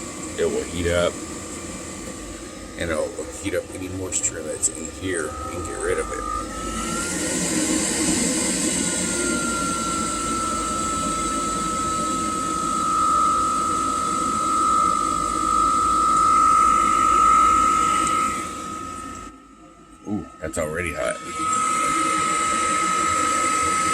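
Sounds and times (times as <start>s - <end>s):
blower fan whining: 0.0s - 23.9s.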